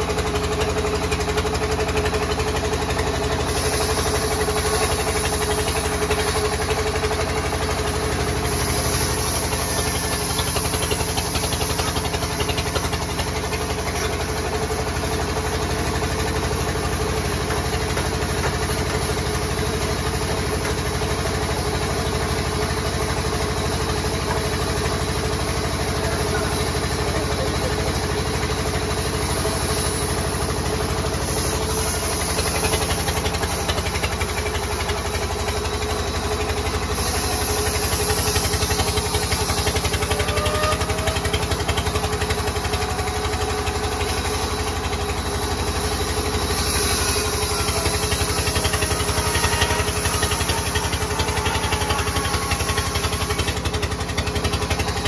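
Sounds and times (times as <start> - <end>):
band saw machine drone: 0.0 - 55.0.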